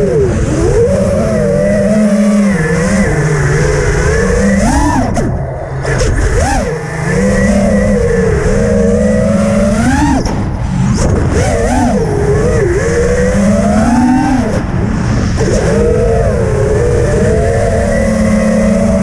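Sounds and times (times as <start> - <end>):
low wind rumble: 0.0 - 19.0
quadcopter motors whining: 0.0 - 19.0.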